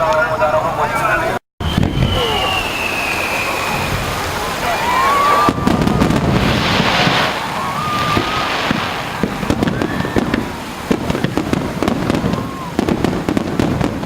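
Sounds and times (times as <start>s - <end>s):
fireworks bangs and crackles: 1.6s - 14.0s
fireworks rising whistles: 1.6s - 14.0s.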